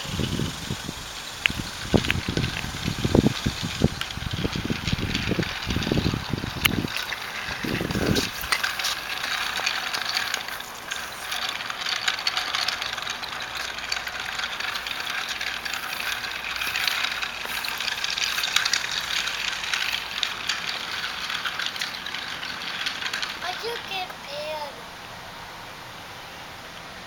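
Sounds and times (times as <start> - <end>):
toy wheels rattling on pavement: 0.0 - 24.8.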